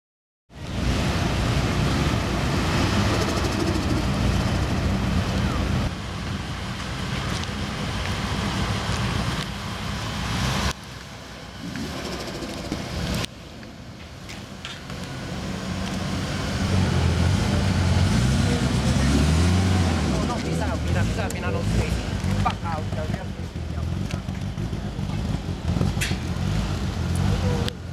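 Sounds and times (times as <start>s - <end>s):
car engine and exhaust running: 0.5s - 27.9s.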